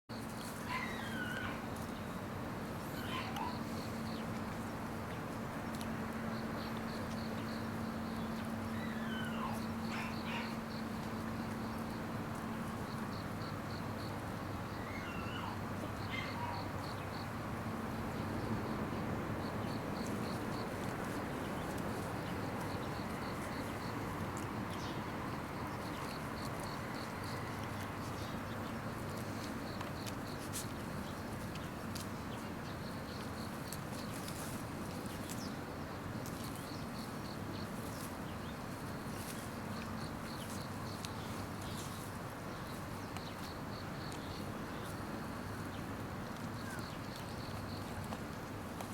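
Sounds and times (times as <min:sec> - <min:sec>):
insects chirping: 0:00.1 - 0:48.9.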